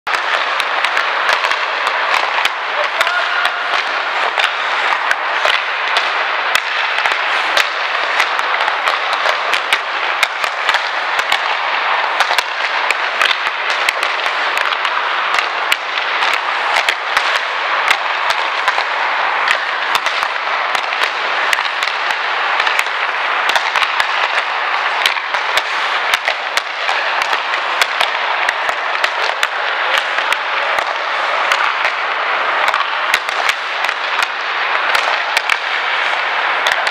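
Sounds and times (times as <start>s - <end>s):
hockey sticks cracking pucks: 0.1s - 36.9s
skate blades scraping ice: 0.1s - 36.9s.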